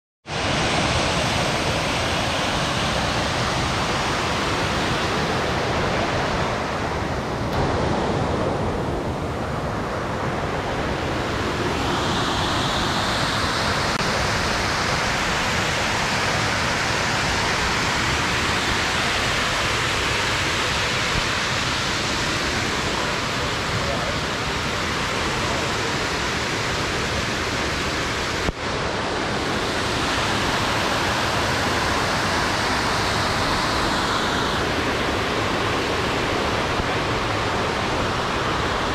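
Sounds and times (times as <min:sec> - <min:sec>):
waterfall rushing: 0:00.3 - 0:38.9.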